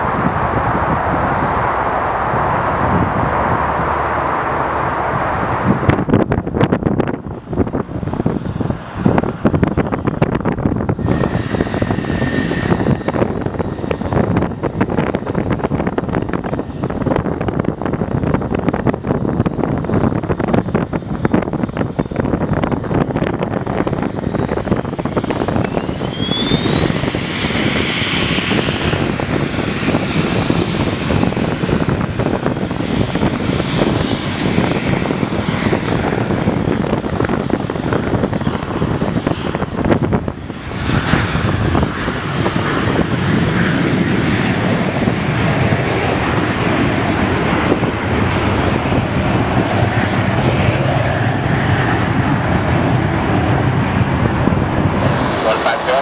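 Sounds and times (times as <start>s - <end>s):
jet engines spooling up: 0.0s - 21.0s, 21.7s - 56.0s
rising turbine whine: 0.0s - 56.0s.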